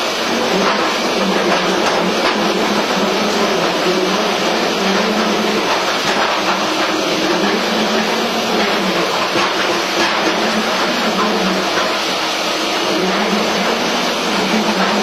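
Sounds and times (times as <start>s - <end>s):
drilling rig drone: 0.0s - 15.0s.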